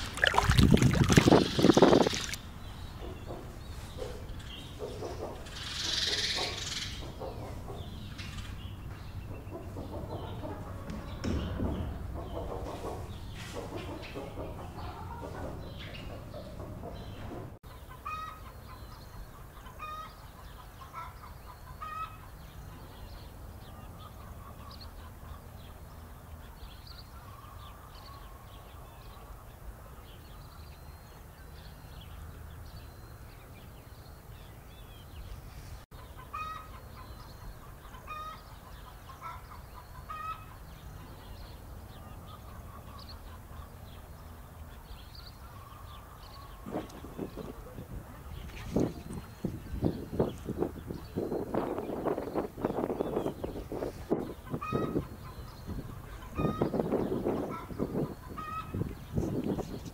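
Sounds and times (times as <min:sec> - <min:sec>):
chickens clucking: 0:00.0 - 0:30.2, 0:35.9 - 0:59.9
small birds chirping: 0:00.0 - 0:59.9.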